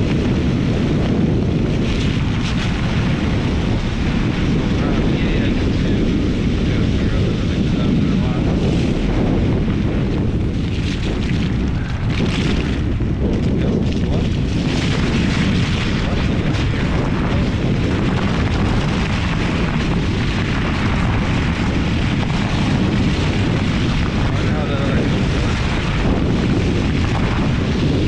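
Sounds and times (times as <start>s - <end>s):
tyre noise on snowy road: 0.0s - 6.5s, 7.2s - 28.0s
wind buffeting microphone: 0.0s - 28.0s.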